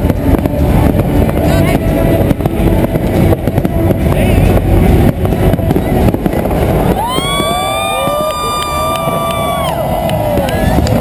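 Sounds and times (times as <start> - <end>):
fireworks booms and crackles: 0.0 - 11.0.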